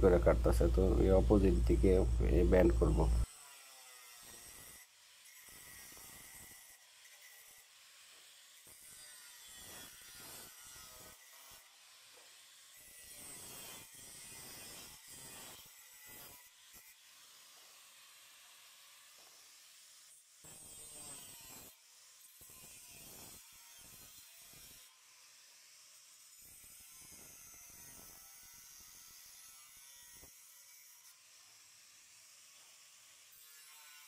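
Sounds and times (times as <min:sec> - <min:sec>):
angle grinder cutting steel: 0:00.0 - 0:34.0.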